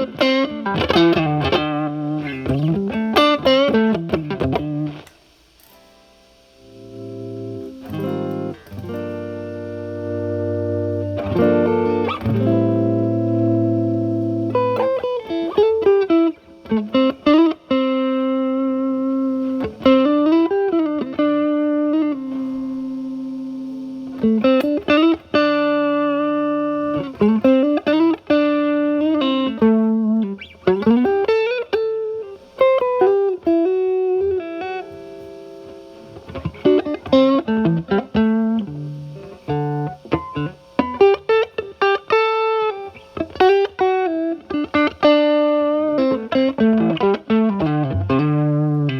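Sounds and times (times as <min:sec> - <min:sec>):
electric guitar lead lines: 0:00.0 - 0:48.9.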